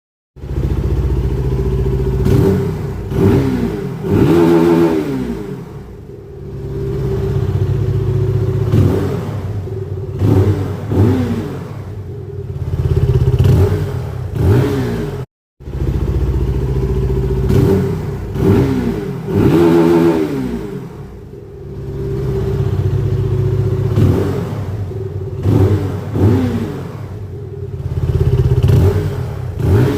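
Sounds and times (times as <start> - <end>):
motorcycle engine throttle blips: 0.4 - 29.9.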